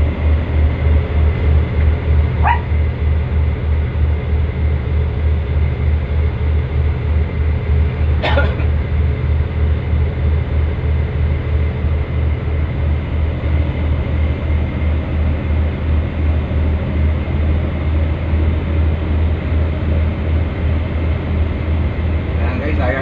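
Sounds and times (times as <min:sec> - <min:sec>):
boat diesel engines droning: 0:00.0 - 0:23.0.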